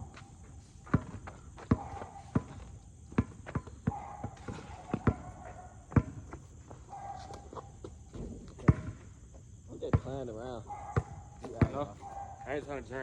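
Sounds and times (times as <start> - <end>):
basketball bouncing on court: 0.0 - 6.4, 7.2 - 9.1, 9.8 - 13.0.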